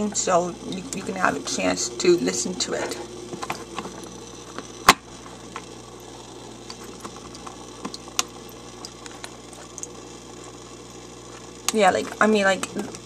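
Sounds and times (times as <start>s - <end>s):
aquarium filter humming: 0.0s - 13.0s.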